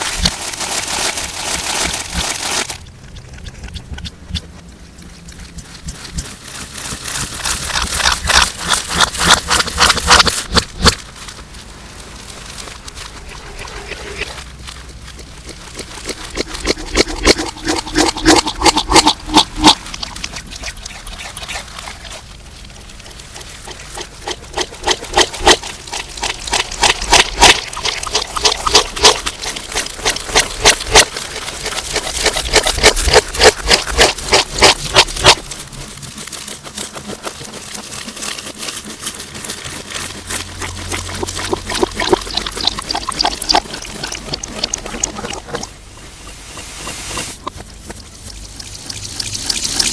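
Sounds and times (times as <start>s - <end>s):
slime squishing with wet pops: 0.0s - 11.4s, 12.2s - 35.7s, 40.1s - 49.9s.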